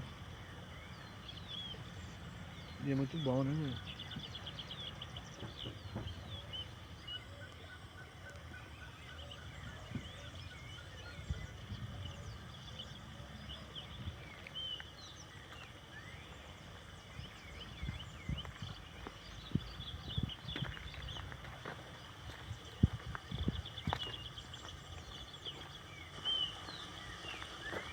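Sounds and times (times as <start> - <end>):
small birds chirping and whistling: 0.0 - 27.9.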